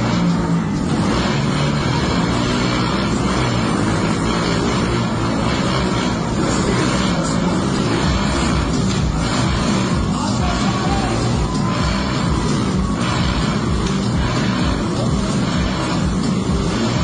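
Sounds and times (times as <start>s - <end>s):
motorcycle engine drone: 0.0s - 17.0s.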